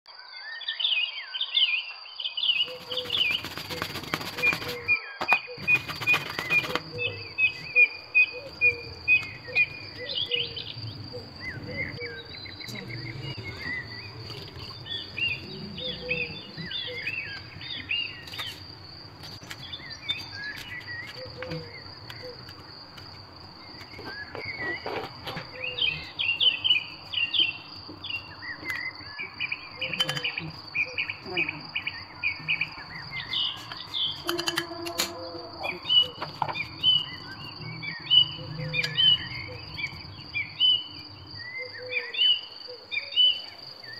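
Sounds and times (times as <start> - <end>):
birds chirping: 2.3 - 43.9.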